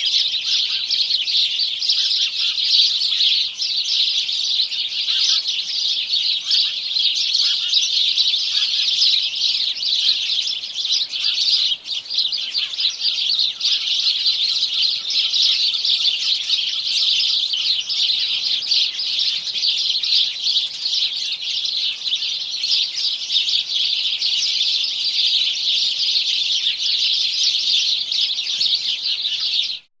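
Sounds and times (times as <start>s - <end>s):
sparrows chirping: 0.0s - 29.9s.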